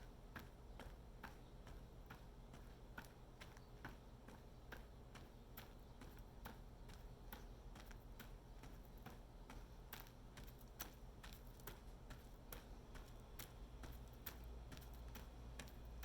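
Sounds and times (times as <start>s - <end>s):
faint footsteps walking: 0.0s - 16.0s.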